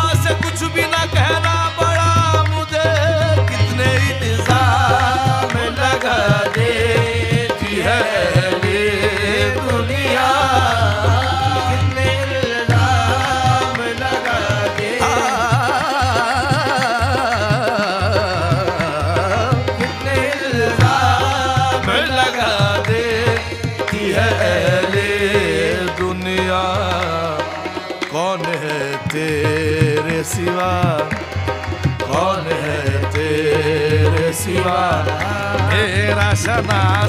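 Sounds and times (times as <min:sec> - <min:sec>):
tabla beating: 0:00.0 - 0:37.0.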